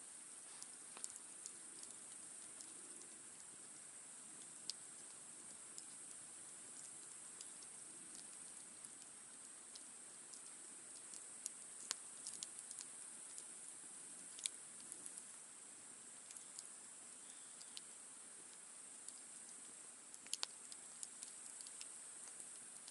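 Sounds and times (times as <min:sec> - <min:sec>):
steady high hiss: 0:00.0 - 0:22.9
campfire crackling and popping: 0:00.1 - 0:22.9.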